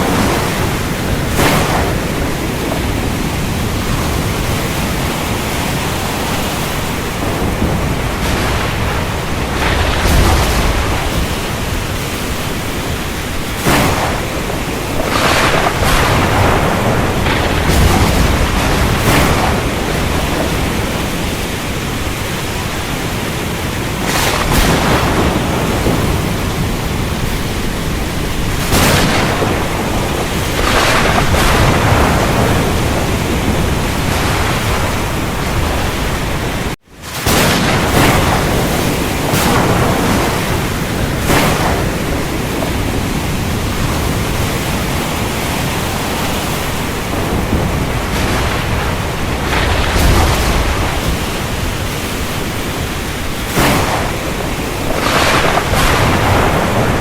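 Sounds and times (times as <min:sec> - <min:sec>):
heavy rain: 0:00.0 - 0:57.0
thunder cracks and rumbles: 0:00.0 - 0:57.0.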